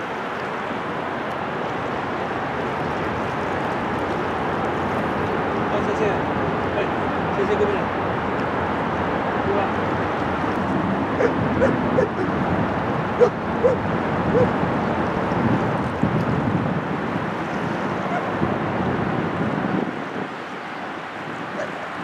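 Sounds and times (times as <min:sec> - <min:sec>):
waves on shore: 0:00.0 - 0:22.0
wind gusting on microphone: 0:00.0 - 0:22.0.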